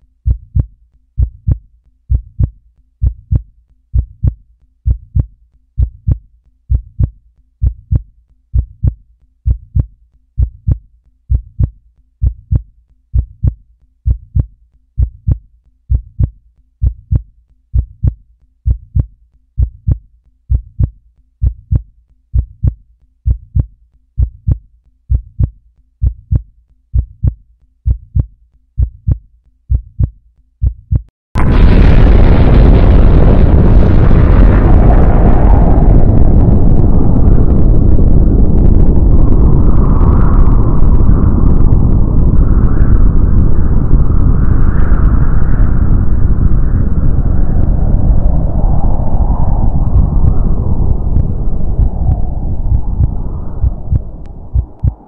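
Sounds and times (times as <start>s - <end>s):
heartbeat thumps: 0.0s - 36.9s, 41.1s - 55.0s.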